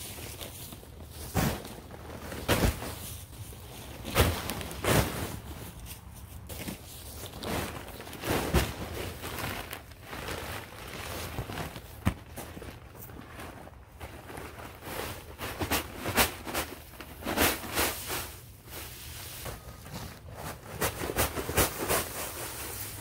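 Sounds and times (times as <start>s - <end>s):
paper bags of leaves thumping: 0.0s - 23.0s.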